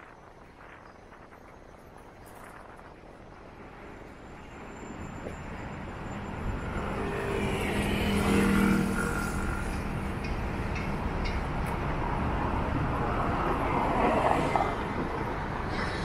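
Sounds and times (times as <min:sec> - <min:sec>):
street traffic hum: 0:02.0 - 0:16.0.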